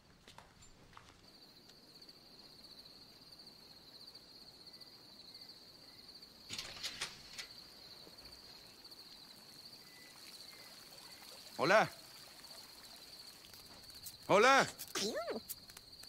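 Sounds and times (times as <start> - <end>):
crickets trilling: 0.9 - 16.0.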